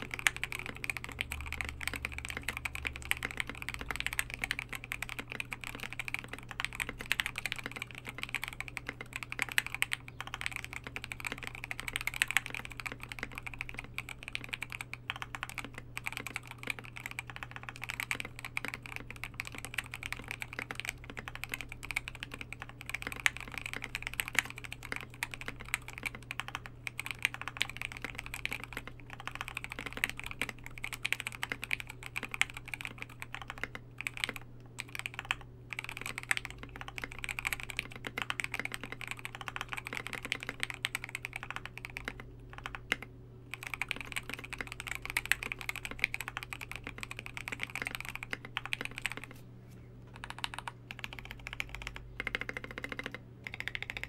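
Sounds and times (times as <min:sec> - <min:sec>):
deep mechanical keyboard typing: 0:00.0 - 0:49.4, 0:50.1 - 0:54.0.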